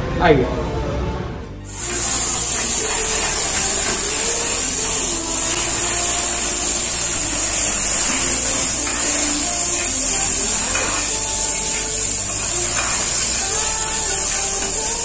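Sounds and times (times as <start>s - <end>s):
gas burner hissing: 1.6s - 15.0s
ladle stirring in a pan: 1.7s - 15.0s
vegetables sizzling in a pan: 1.7s - 15.0s.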